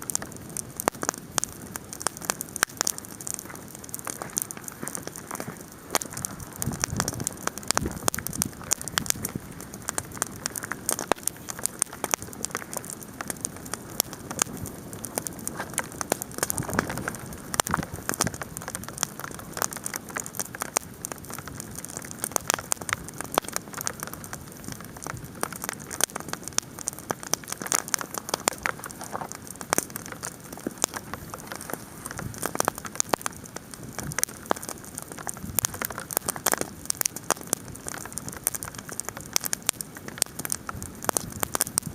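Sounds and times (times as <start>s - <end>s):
campfire crackling and popping: 0.0s - 41.9s
hail pattering: 0.0s - 41.9s.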